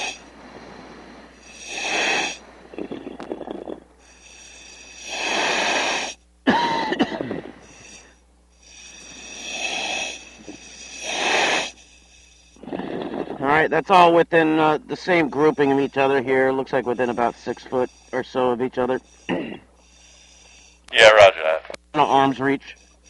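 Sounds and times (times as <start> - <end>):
diver breathing through regulator: 0.0 - 13.5, 15.1 - 20.9.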